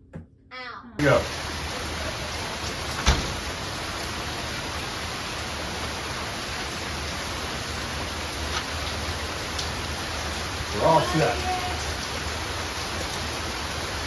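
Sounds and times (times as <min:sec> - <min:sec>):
steady rain hiss: 0:01.0 - 0:14.0.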